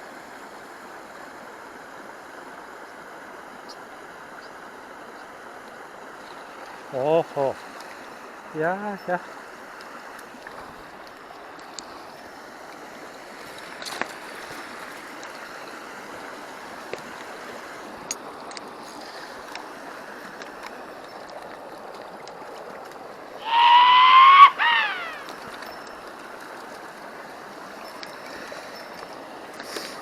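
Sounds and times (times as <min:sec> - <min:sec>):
stream rushing: 0:00.0 - 0:30.0.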